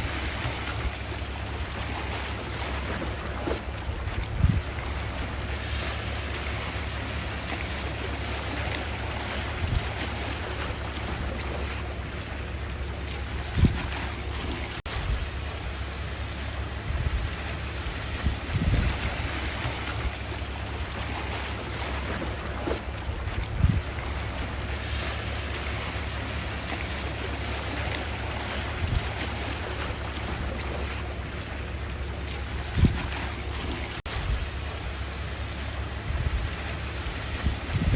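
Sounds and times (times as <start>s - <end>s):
calm sea waves washing: 0.0s - 37.9s
wind rumbling on microphone: 0.0s - 37.9s.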